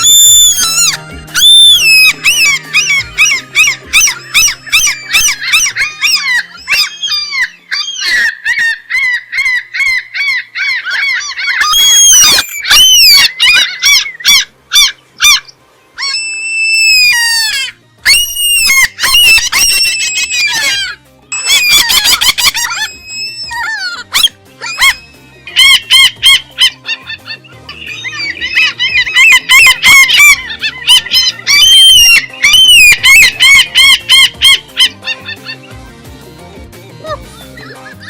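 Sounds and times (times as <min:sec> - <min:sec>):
gulls squawking: 0:00.0 - 0:36.0, 0:37.0 - 0:38.0.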